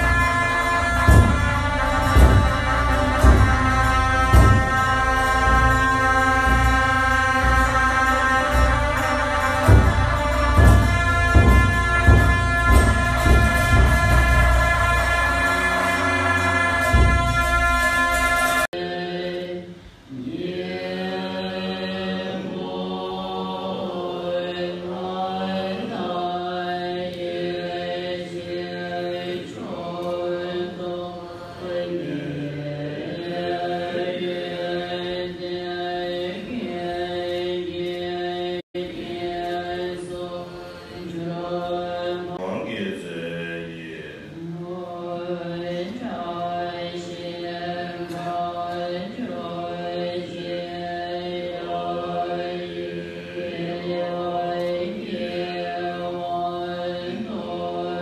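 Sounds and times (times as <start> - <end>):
group chanting: 0.0 - 58.0.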